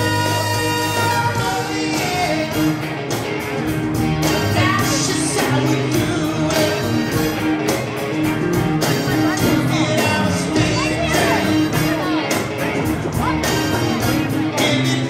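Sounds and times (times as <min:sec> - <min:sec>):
man singing lead vocal: 0:00.0 - 0:03.1, 0:04.2 - 0:07.7, 0:08.8 - 0:15.0
drums: 0:00.0 - 0:15.0
electric guitar: 0:00.0 - 0:15.0
keyboards: 0:00.0 - 0:15.0.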